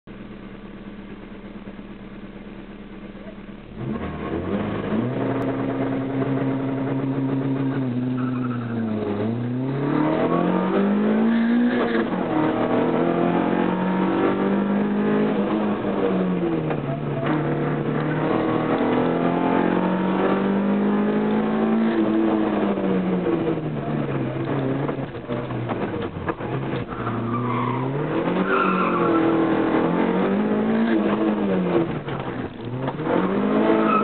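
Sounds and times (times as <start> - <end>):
car engine revving: 3.0 - 34.0.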